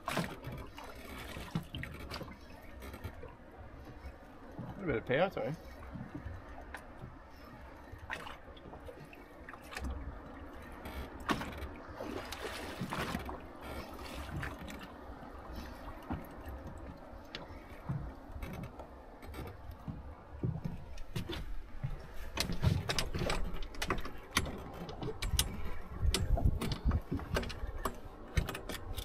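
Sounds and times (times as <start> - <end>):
water lapping against boat hull: 0.0 - 29.0.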